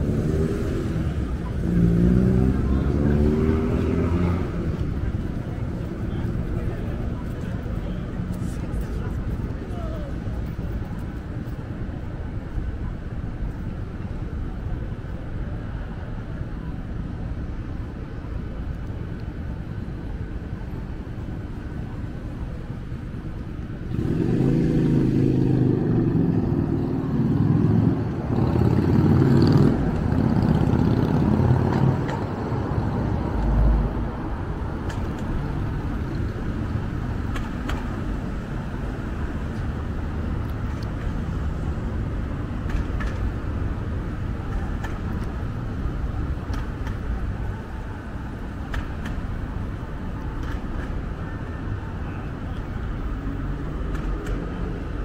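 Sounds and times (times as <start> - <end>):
vehicle engine close by: 0.0 - 12.7, 21.0 - 55.0
city traffic rumble: 0.0 - 55.0.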